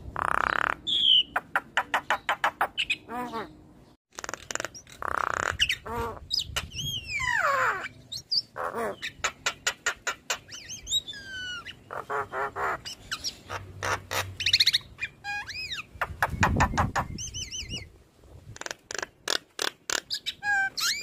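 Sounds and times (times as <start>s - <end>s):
myna bird singing: 0.2s - 17.9s, 18.7s - 21.0s.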